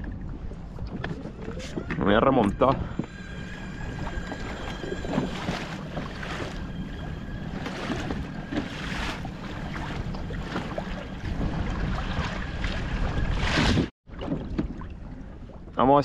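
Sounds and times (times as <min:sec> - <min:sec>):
wind on microphone: 0:00.0 - 0:15.7
water splashing along kayak hull: 0:00.0 - 0:15.8.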